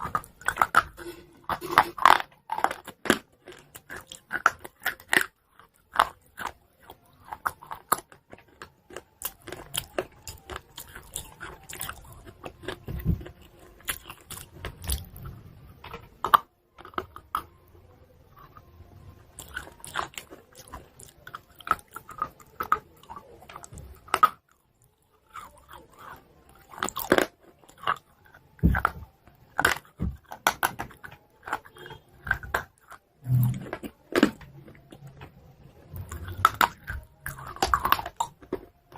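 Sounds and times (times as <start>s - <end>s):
chewing hard chalk crunches: 0.0s - 15.3s, 19.4s - 35.1s, 35.9s - 38.9s.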